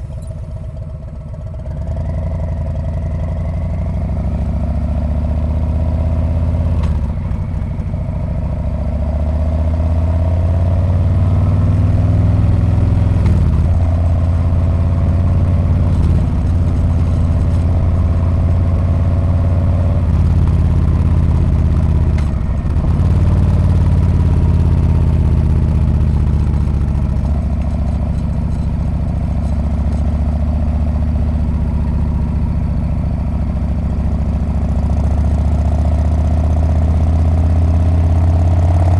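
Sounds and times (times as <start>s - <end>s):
motorcycle engine and exhaust running: 0.0s - 38.9s.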